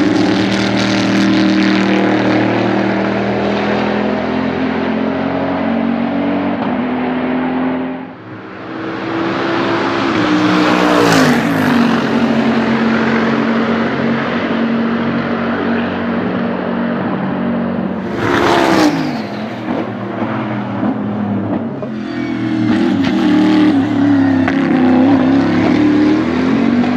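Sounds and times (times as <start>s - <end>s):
race car engine at speed: 0.0s - 26.9s.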